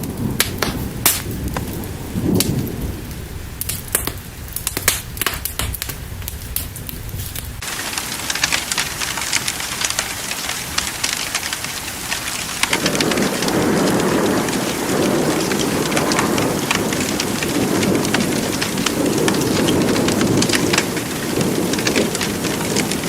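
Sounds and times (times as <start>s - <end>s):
heavy rain pattering: 0.0s - 23.0s
thunder rumbling: 0.0s - 23.0s.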